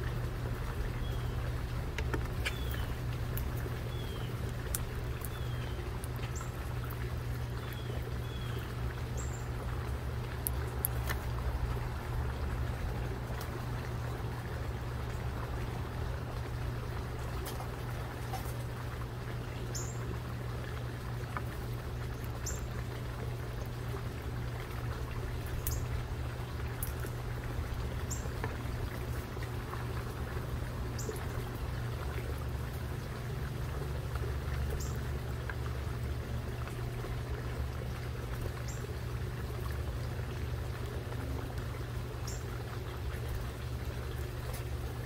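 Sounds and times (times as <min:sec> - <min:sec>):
low background rumble: 0:00.0 - 0:45.0.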